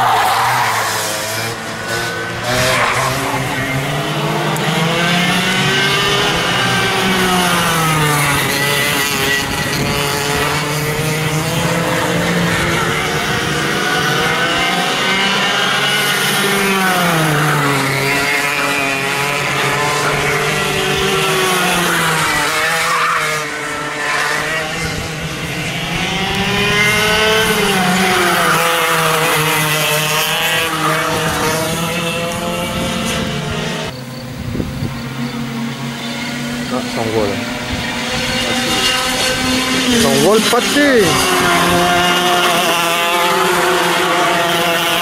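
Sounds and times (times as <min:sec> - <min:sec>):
racing kart engine: 0:00.0 - 0:45.0.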